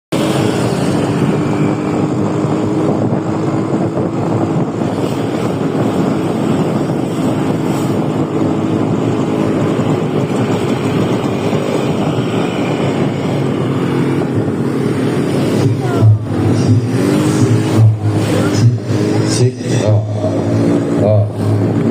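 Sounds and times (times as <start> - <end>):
motorcycle engine running: 0.1 - 21.9
wind buffeting microphone: 0.1 - 21.9.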